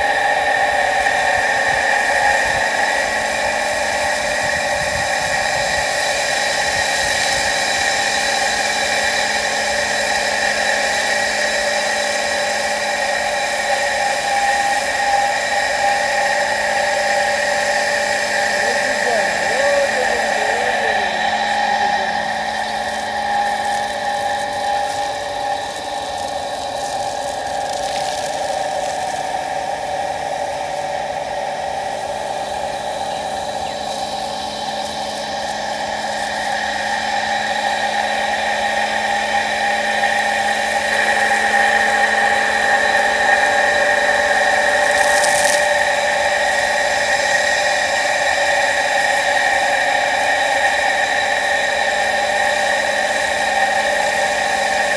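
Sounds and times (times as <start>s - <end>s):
water pump motor whining: 0.0s - 54.9s.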